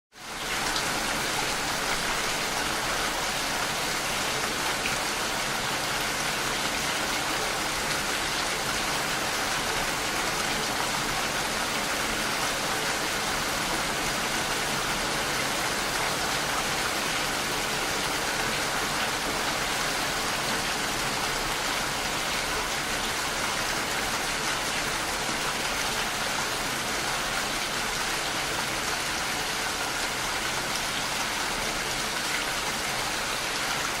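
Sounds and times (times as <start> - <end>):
heavy rain falling: 0.2 - 34.0.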